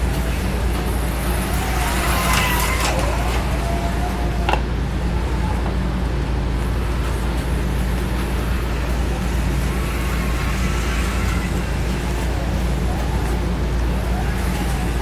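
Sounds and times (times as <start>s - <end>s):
slot car motors whining: 0.0s - 15.0s
steady low hum: 0.0s - 15.0s.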